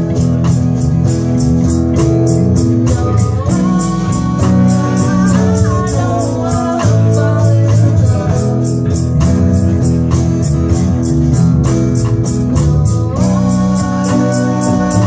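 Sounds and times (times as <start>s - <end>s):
live band playing loudly: 0.0s - 15.0s.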